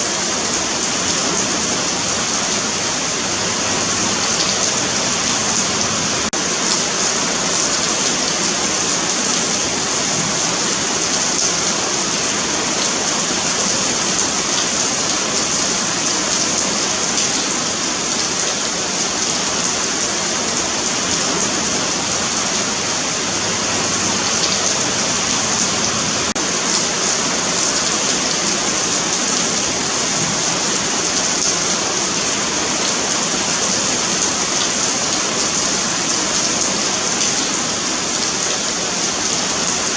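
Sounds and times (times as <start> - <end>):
rain on pavement: 0.0 - 39.9.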